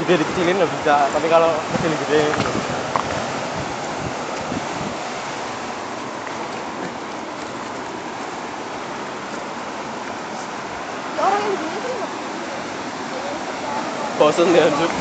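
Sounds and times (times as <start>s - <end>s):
surf breaking on rocks: 0.0s - 15.0s.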